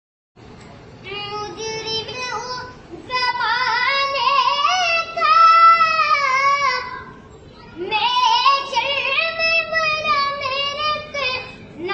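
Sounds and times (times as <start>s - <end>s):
child singing unaccompanied: 1.0s - 11.9s.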